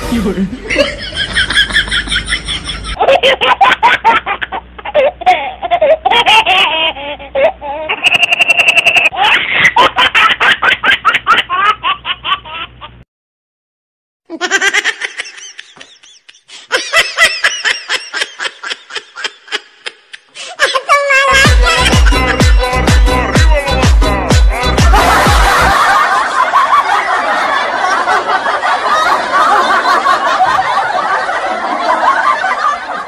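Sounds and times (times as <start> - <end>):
people laughing: 0.4 - 5.2, 7.9 - 12.6, 14.3 - 33.0.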